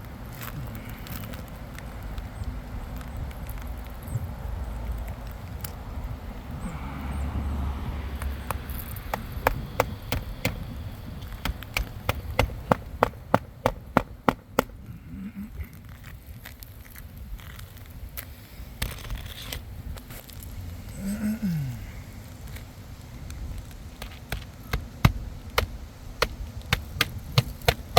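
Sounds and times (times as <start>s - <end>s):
wind rumble on microphone: 0.0s - 13.2s, 14.0s - 27.9s.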